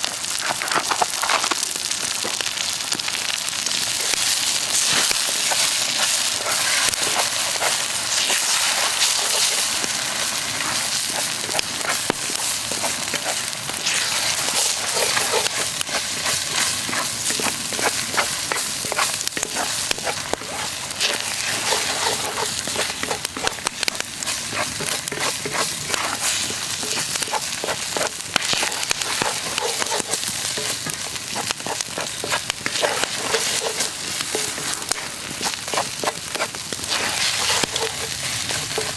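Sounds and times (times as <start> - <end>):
fire crackles and pops: 0.0 - 38.9
food sizzling: 0.0 - 38.9.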